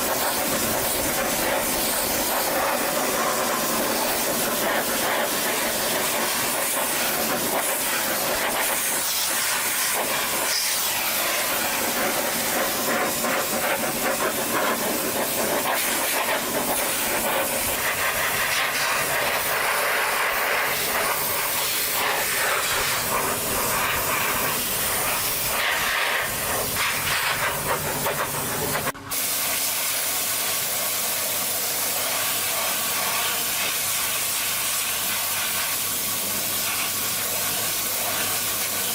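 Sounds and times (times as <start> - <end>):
loud steady hissing: 0.0 - 38.9.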